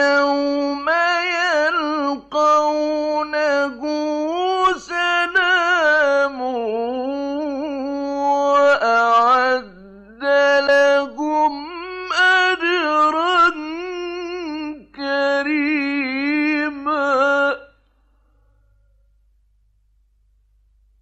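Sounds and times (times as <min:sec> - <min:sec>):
man chanting melodically: 0:00.0 - 0:17.8.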